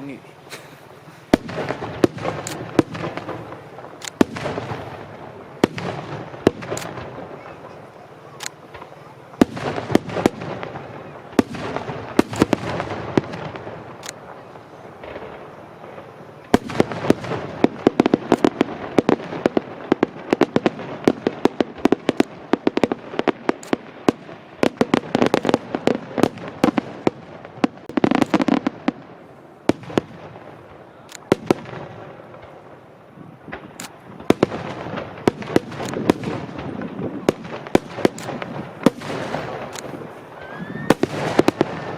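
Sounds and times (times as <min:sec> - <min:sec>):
fireworks bursting with sharp bangs: 0:00.0 - 0:41.9
fireworks crackle: 0:00.0 - 0:41.9.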